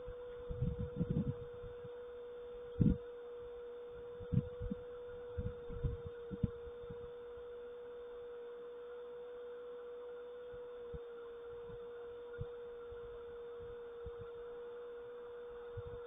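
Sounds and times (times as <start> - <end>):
steady single-pitched hum: 0.0 - 16.0.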